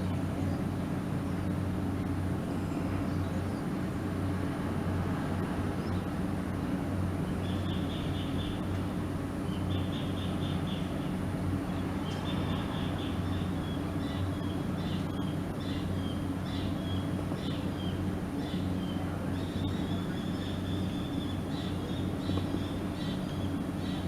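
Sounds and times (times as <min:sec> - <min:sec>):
low urban hum: 0:00.0 - 0:24.0.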